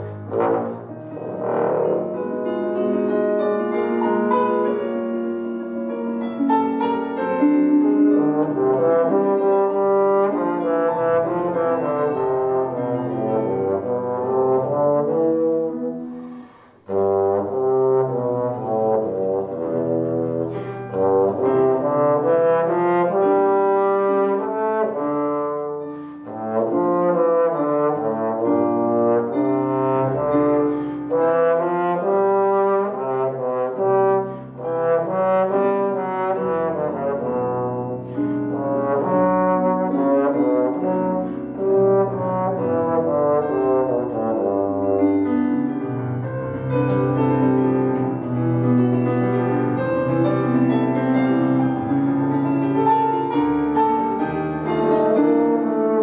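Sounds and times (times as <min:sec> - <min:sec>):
solo trombone playing: 0:00.0 - 0:56.0.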